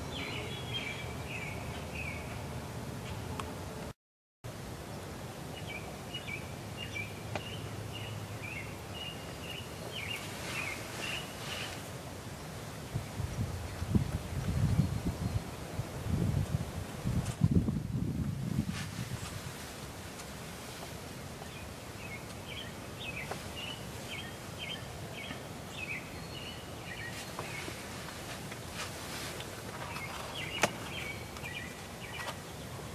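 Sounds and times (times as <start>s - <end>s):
songbird chirping: 0.0s - 3.5s, 4.8s - 16.0s, 19.0s - 32.9s
low outdoor hum: 0.0s - 32.9s.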